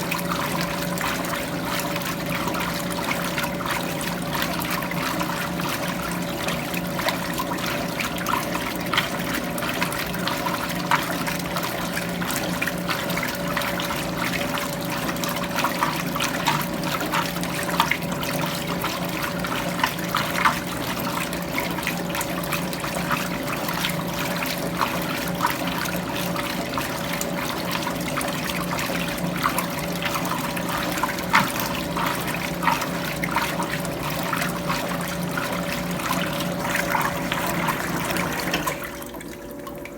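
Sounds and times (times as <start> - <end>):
washing machine hum: 0.0 - 39.9
water sloshing in washing machine: 0.0 - 39.9.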